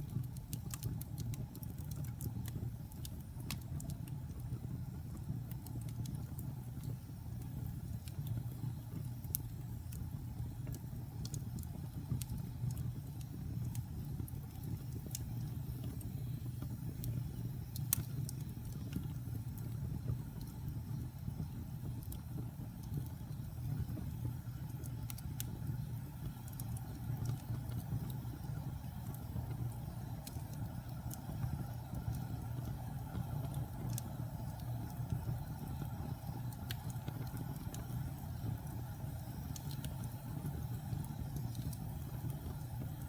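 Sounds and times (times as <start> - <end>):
fire crackles and pops: 0.0 - 43.0
fire rumbling in fireplace: 0.0 - 43.0.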